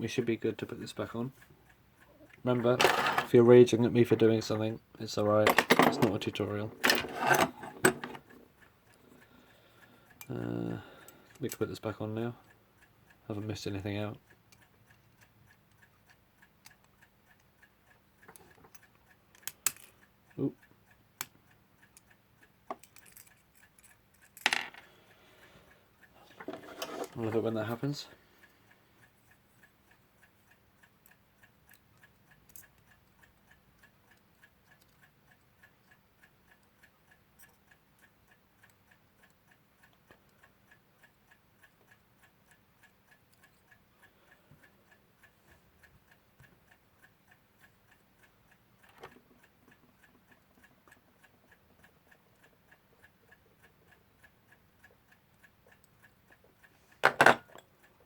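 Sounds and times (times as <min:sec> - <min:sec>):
mechanical clock ticking: 0:00.2 - 0:58.0.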